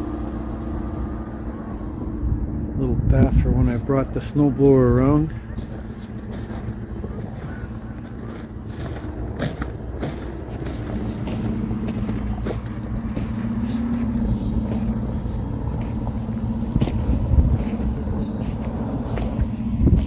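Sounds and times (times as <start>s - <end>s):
snowblower engine running: 0.0s - 20.0s.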